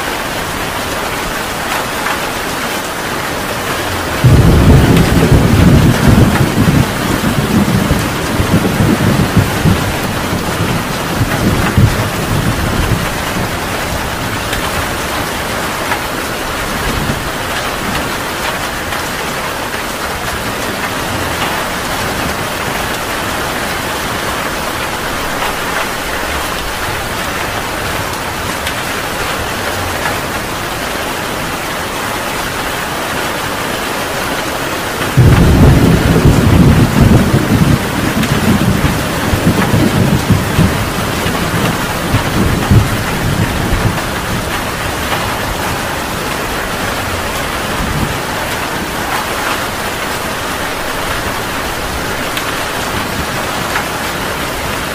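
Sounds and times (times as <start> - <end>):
heavy rain falling: 0.0 - 54.9
thunder rumbling: 0.1 - 30.9, 34.9 - 54.9.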